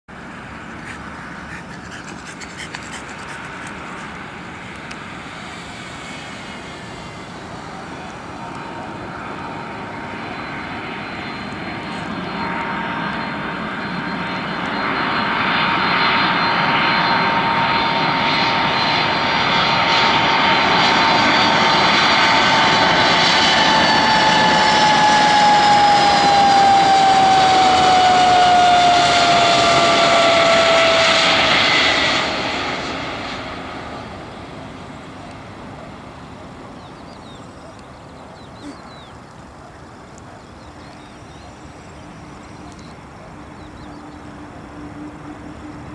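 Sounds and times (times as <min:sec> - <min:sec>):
high engine whine: 0:00.1 - 0:17.7, 0:21.2 - 0:45.9
jet airliner passing: 0:00.1 - 0:45.9.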